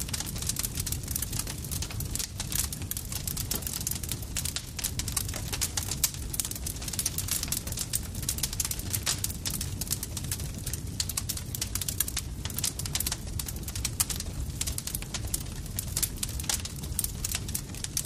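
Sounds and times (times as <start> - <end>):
campfire crackling: 0.0 - 18.0
low rumble of burning: 0.0 - 18.0.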